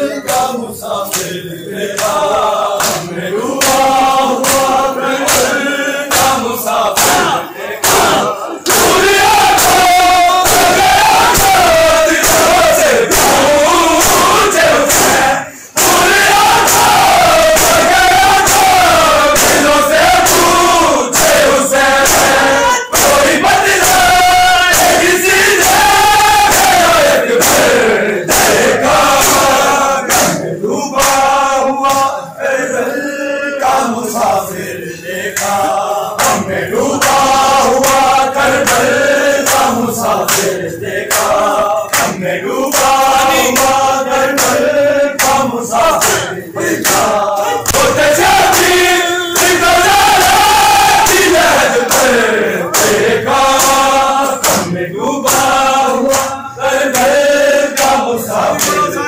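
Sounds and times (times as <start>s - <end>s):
crowd of men chanting: 0.0s - 59.0s
chest-beating slaps: 0.2s - 32.2s, 35.3s - 59.0s.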